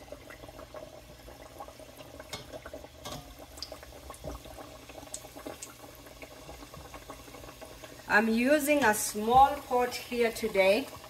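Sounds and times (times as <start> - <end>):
dough deep-frying in hot oil: 0.0 - 11.0
oil crackles and pops: 0.0 - 11.0.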